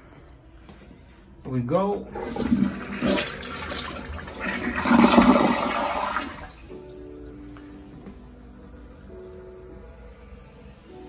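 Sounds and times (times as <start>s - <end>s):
soft background music: 0.0s - 11.0s
toilet flushing: 2.1s - 11.0s.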